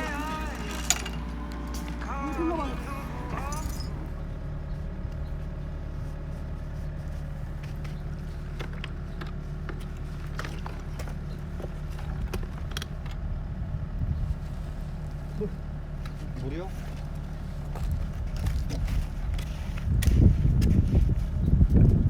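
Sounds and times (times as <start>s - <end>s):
engine idling: 0.0s - 21.7s.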